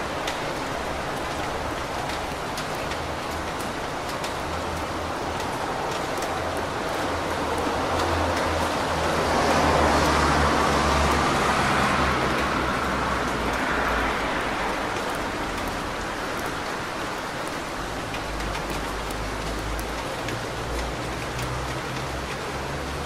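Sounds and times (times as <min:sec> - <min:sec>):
rain on street: 0:00.0 - 0:23.0
tyres hissing on wet road: 0:00.0 - 0:23.0.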